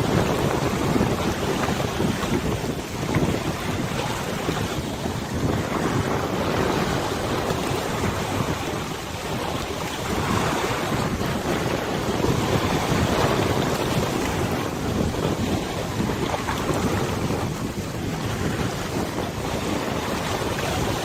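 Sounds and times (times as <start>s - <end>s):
river water rushing and lapping: 0.0s - 21.0s
wind buffeting microphone: 0.0s - 21.0s.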